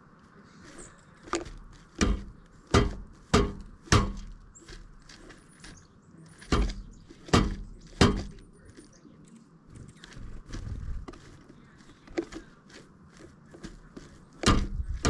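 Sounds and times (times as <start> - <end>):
woodpecker pecking on wood: 0.5 - 9.1, 9.7 - 15.0.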